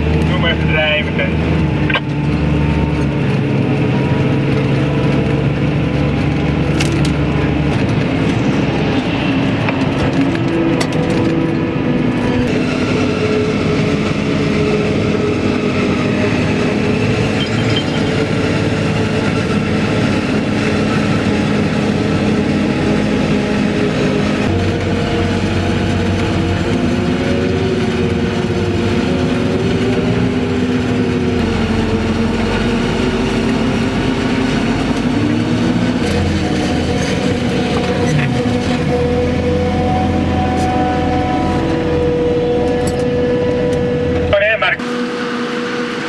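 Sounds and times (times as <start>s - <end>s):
low engine drone: 0.0s - 46.0s
tractor running: 0.0s - 46.0s.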